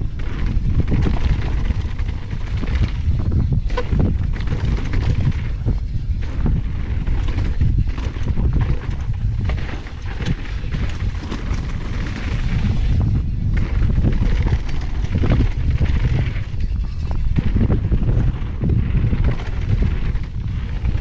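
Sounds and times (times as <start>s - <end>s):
bike chain and frame rattling: 0.0s - 21.0s
wind buffeting microphone: 0.0s - 21.0s.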